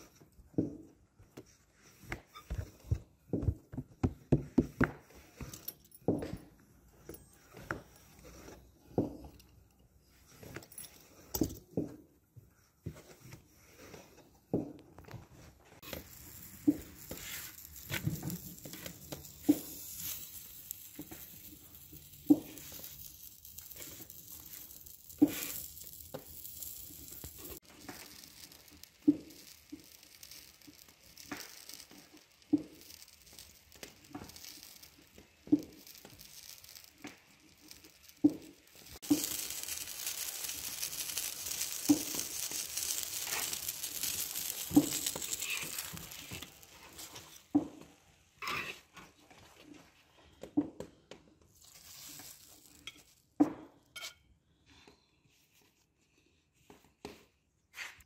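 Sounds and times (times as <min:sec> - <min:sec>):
flatbreads sizzling on hot iron: 0:00.0 - 0:50.0, 0:51.4 - 0:54.2.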